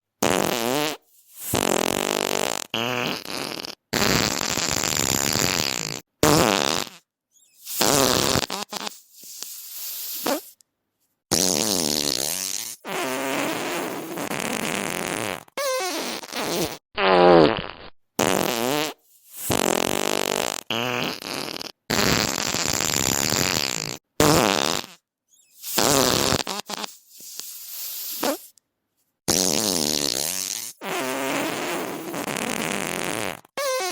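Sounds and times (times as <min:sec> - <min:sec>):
buzzing farts: 0:00.2 - 0:07.0, 0:07.6 - 0:09.4, 0:10.2 - 0:10.5, 0:11.3 - 0:25.0, 0:25.6 - 0:28.5, 0:29.3 - 0:33.9.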